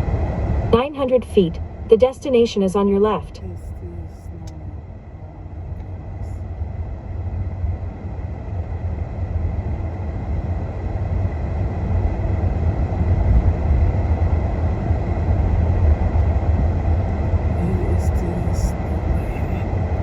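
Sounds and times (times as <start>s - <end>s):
road and engine rumble in car: 0.0s - 20.0s.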